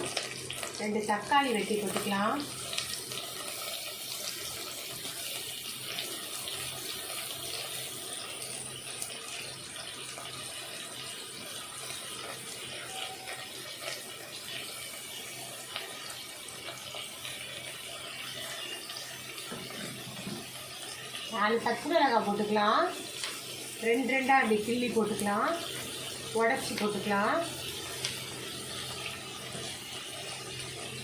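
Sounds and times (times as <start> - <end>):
onion and tomato sizzling in oil: 0.0 - 31.0.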